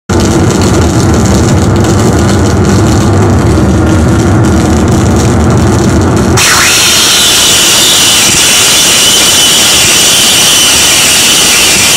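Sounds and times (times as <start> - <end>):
distorted guitar drone: 0.1 - 11.9.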